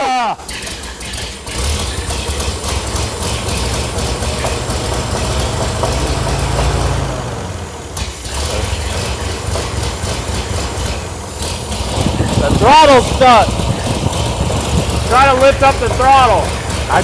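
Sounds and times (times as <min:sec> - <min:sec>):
fire truck engine running: 0:00.1 - 0:17.0.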